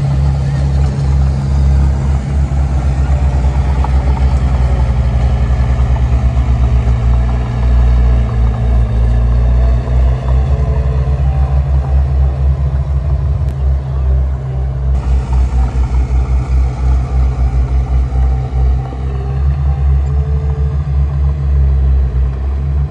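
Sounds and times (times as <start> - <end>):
heavy diesel engine pulsing: 0.0 - 22.9.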